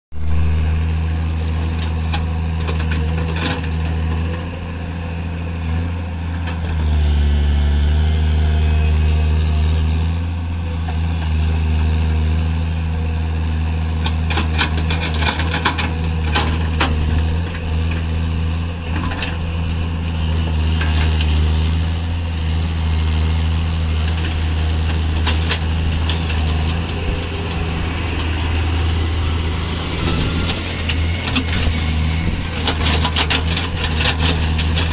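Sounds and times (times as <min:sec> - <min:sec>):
excavator diesel engine: 0:00.1 - 0:34.9.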